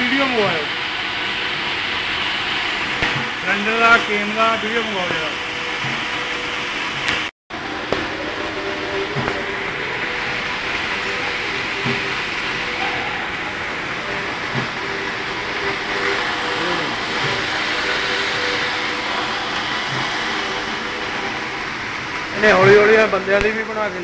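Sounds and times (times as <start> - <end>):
knitting machine whir and clatter: 0.0 - 23.6.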